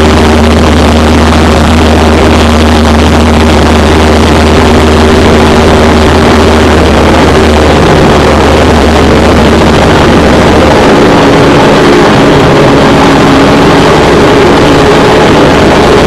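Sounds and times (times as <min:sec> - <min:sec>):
airplane engine and propeller droning: 0:00.0 - 0:16.0
broad rushing noise: 0:00.0 - 0:16.0.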